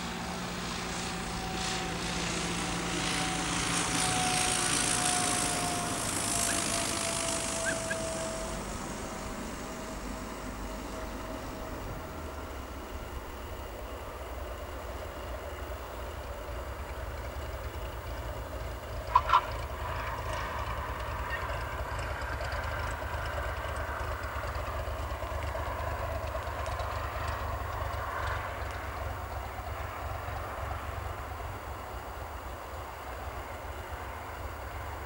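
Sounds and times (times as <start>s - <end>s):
aircraft piston engine: 0.0s - 35.0s.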